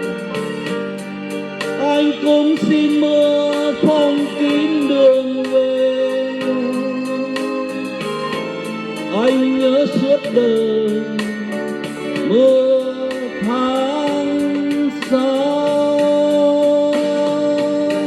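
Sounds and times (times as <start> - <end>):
backing band playing: 0.0 - 18.0
person singing a ballad: 0.0 - 18.0.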